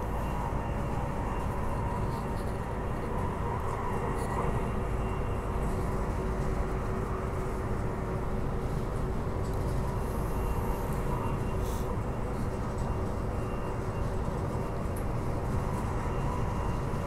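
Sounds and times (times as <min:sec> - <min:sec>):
faint steady whine: 0:00.0 - 0:17.0
wheels rumbling on rail: 0:00.0 - 0:17.0.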